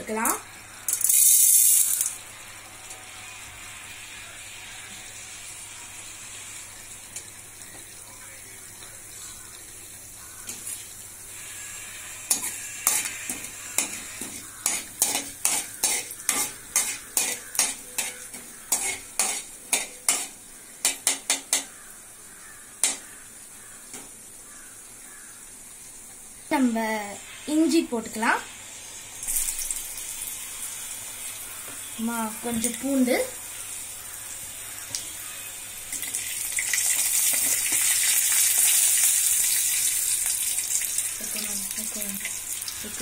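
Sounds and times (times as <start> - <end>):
lentils sizzling in oil: 0.0 - 43.0.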